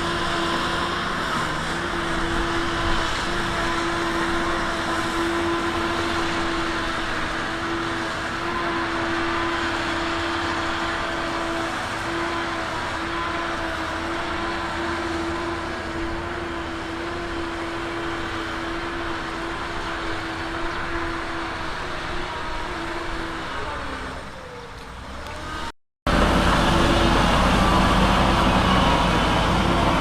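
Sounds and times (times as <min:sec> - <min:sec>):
constant whine: 0:00.0 - 0:30.0
diesel engine running: 0:00.0 - 0:30.0.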